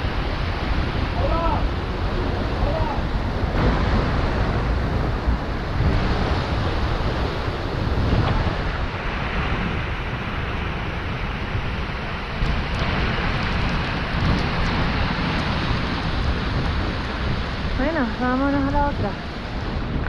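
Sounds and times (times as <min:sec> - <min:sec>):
waterfall rushing: 0:00.0 - 0:20.0
wind buffeting microphone: 0:00.0 - 0:20.0.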